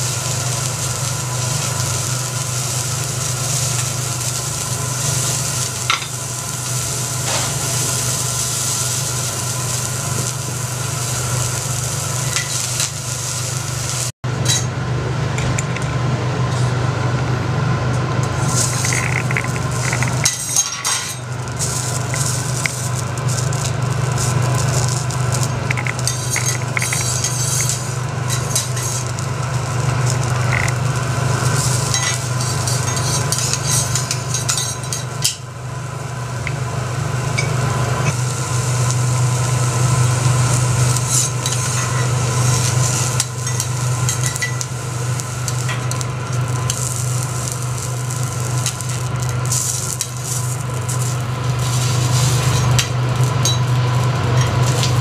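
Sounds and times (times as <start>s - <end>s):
food sizzling on griddle: 0.0s - 14.2s, 18.4s - 55.0s
steady low hum: 0.0s - 55.0s.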